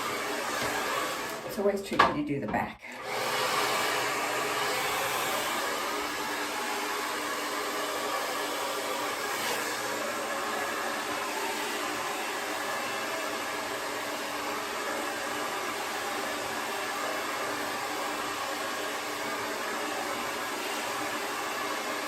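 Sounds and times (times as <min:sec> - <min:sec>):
hair dryer blowing: 0:00.0 - 0:02.2, 0:02.8 - 0:22.0.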